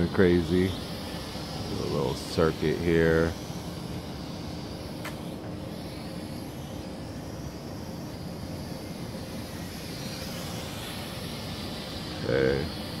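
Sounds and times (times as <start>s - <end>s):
quadcopter propellers whirring: 0.0s - 13.0s.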